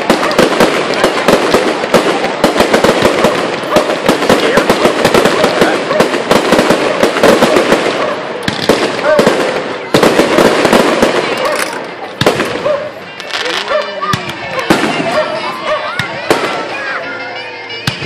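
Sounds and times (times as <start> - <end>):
fireworks crackling and banging: 0.0 - 18.0.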